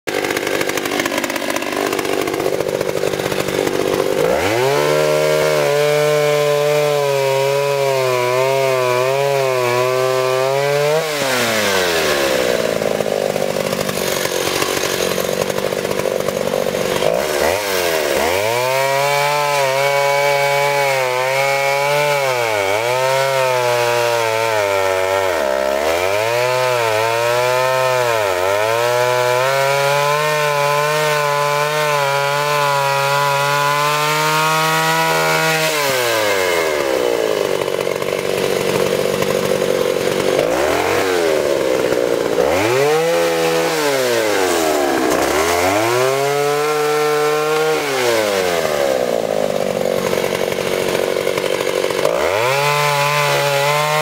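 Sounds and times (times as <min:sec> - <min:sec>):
chainsaw cutting wood: 0:00.1 - 0:54.0.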